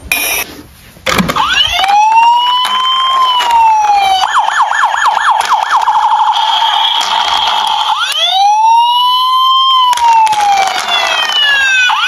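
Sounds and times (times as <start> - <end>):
toy electronic siren: 1.4 - 12.0.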